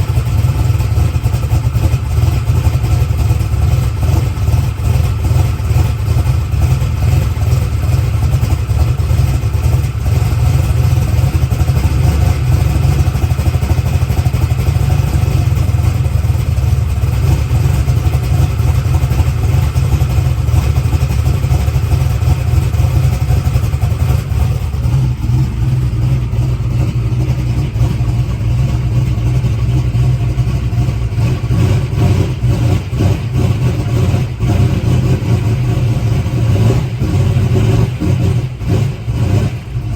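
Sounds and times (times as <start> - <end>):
loud engine idling: 0.0 - 39.9.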